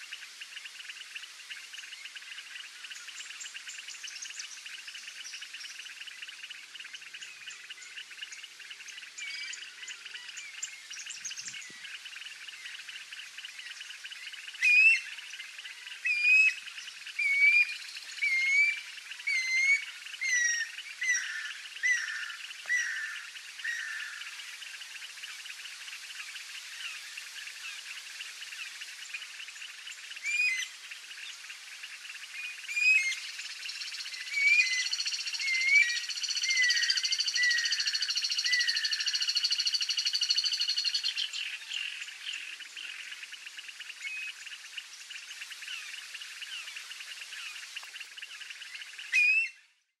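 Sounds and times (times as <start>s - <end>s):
frog chorus: 0.0s - 49.9s.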